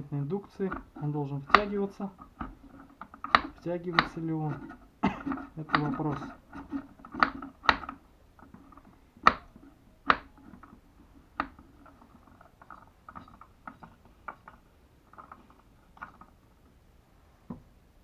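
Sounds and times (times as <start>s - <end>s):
faint metal scraping: 0.0s - 16.4s
metal parts clicking and knocking: 0.3s - 16.4s.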